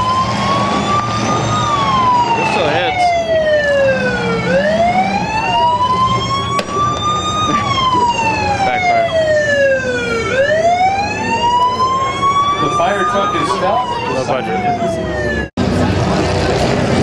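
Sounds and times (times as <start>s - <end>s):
siren wailing: 0.0s - 15.8s
engines rumbling: 0.0s - 17.0s.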